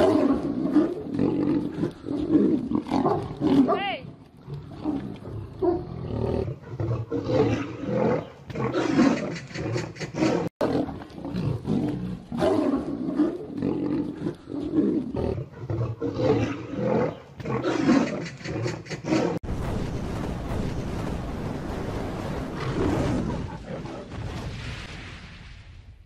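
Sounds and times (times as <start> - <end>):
big cats roaring and snarling: 0.0 - 19.4, 22.2 - 24.3.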